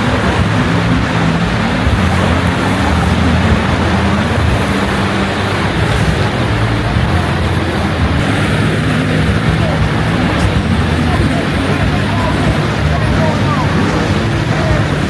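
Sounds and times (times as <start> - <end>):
loud even wash of noise: 0.0 - 15.0
low motor hum: 0.0 - 15.0.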